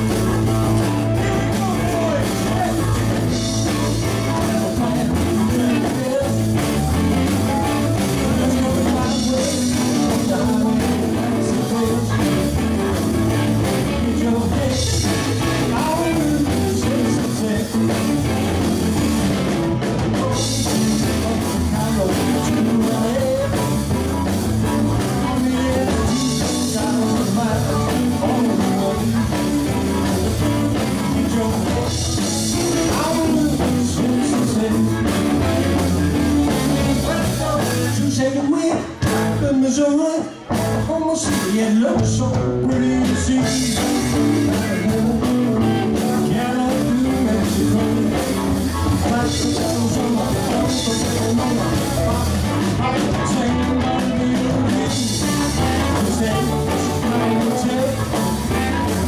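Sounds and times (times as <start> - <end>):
person singing: 0.0 - 59.0
rock band playing: 0.0 - 59.0.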